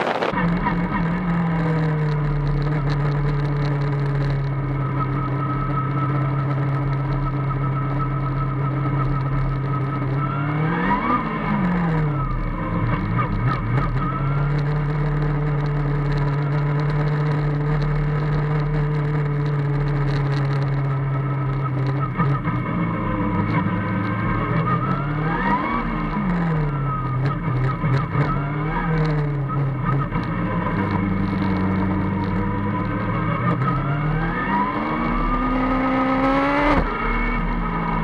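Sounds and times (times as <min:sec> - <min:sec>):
race car engine running: 0:00.0 - 0:38.0.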